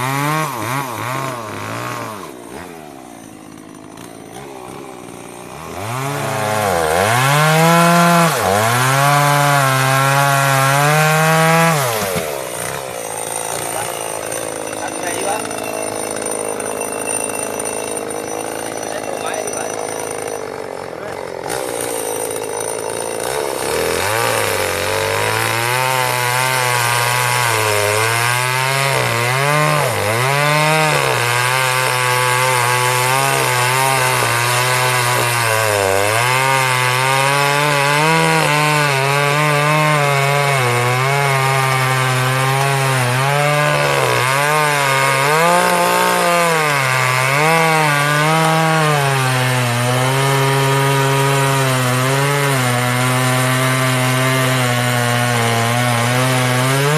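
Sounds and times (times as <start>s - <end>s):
chainsaw cutting tree trunk: 0.0s - 56.9s.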